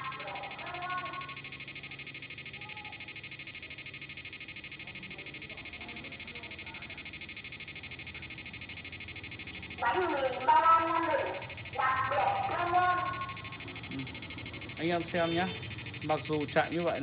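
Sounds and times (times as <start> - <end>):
pulsing high-pitched electronic whine: 0.0 - 17.0.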